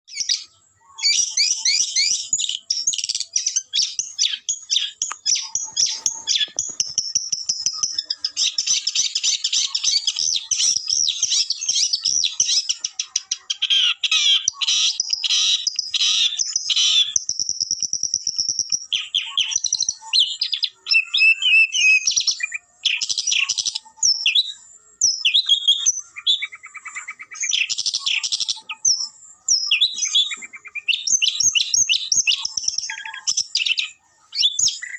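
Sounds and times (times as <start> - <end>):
bird singing chirps and trills: 0.1 - 34.9.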